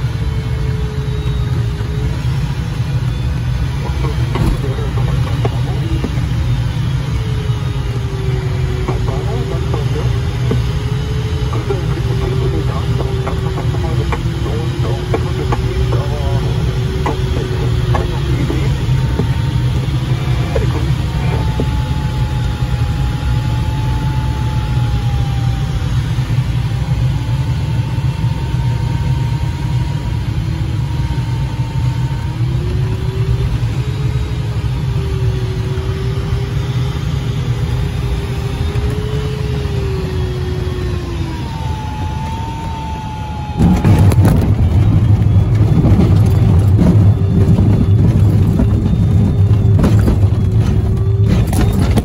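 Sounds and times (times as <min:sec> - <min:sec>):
airflow rushing around glider cockpit: 0:00.0 - 0:52.0.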